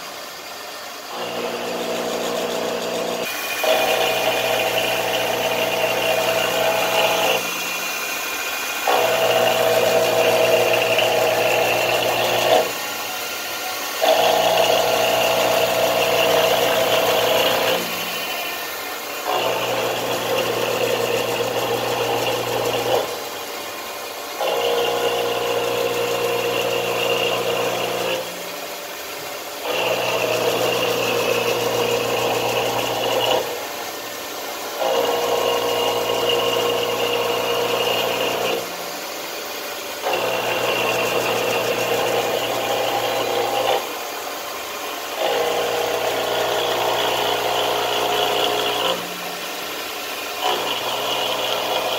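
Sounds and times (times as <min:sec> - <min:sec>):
milling machine whine and hum: 0:00.0 - 0:51.9.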